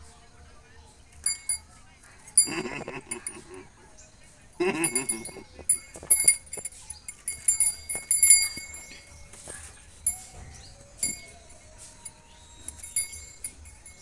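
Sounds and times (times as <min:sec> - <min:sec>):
small bell jingling: 0:01.2 - 0:03.7, 0:04.6 - 0:14.0.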